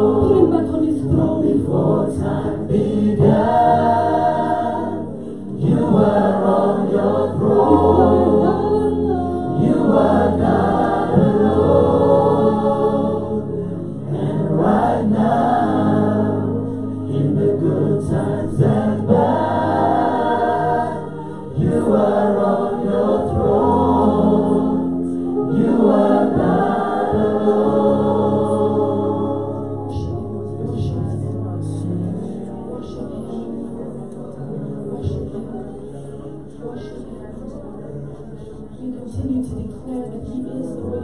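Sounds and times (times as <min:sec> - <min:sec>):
group singing gospel in harmony: 0:00.0 - 0:33.7
instrumental backing: 0:00.0 - 0:37.2.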